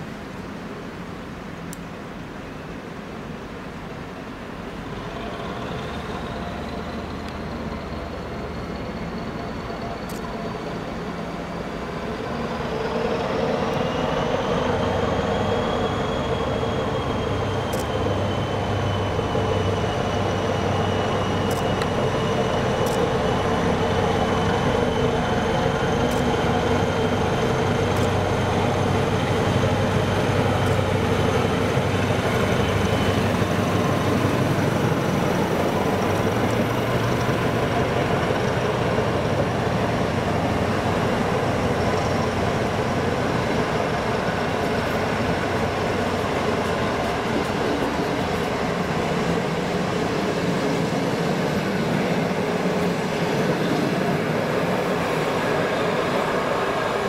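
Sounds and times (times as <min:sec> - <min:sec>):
diesel train running past: 0:00.0 - 0:57.0.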